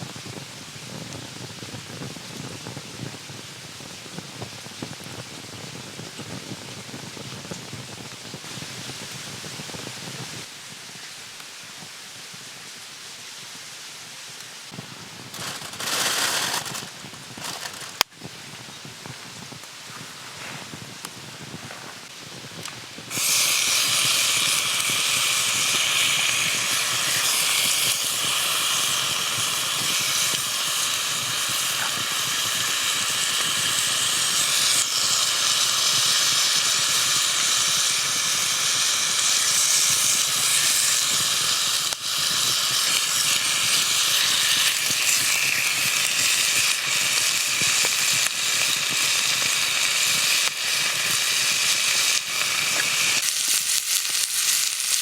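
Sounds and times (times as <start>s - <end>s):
food sizzling in a pan: 0.0s - 10.5s, 14.6s - 55.0s.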